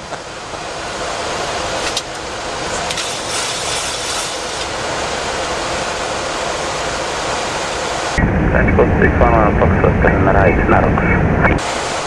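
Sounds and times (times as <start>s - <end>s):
airplane cockpit engine and airflow noise: 0.0s - 12.0s.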